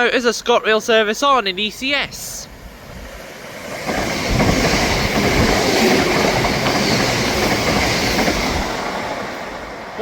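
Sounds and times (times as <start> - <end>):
train on rails: 0.8 - 10.0.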